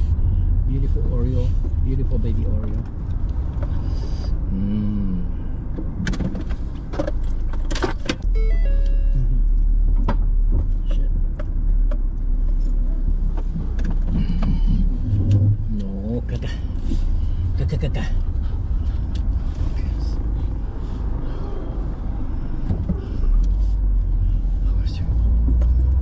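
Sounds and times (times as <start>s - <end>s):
car cabin rumble: 0.0s - 26.0s.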